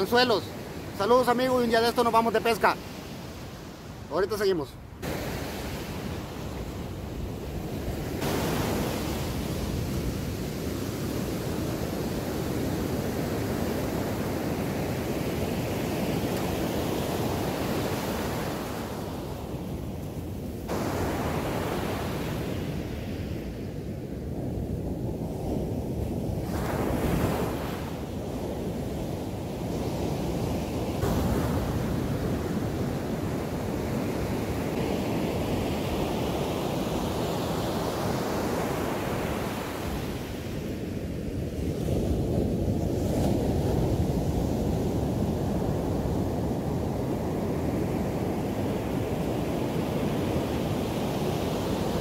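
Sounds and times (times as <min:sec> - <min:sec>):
ocean surf breaking on beach: 0:00.0 - 0:52.0.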